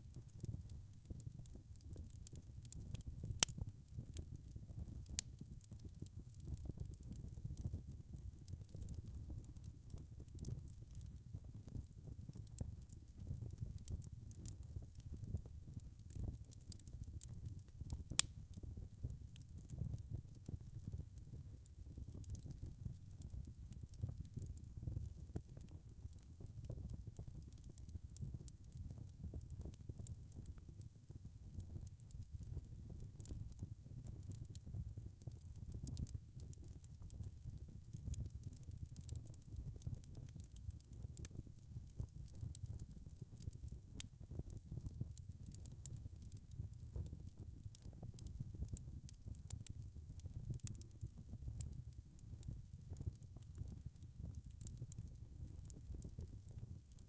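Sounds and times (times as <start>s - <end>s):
low rumble of flames: 0.0s - 57.0s
wood fire crackling: 0.1s - 57.0s
fire popping: 0.2s - 11.0s, 11.6s - 43.7s, 47.8s - 56.6s.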